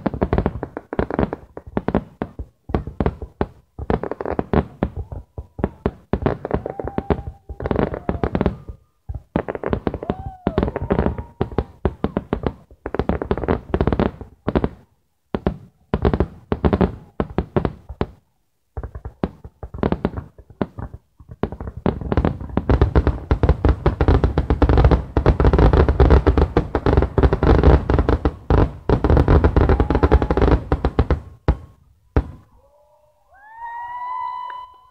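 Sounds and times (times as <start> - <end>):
fireworks exploding: 0.0 - 32.6.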